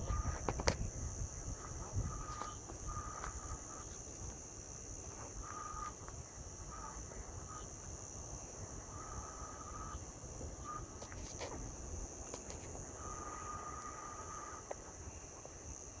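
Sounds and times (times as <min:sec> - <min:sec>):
high-pitched insect drone: 0:00.0 - 0:16.0
wind rumble on microphone: 0:00.0 - 0:16.0.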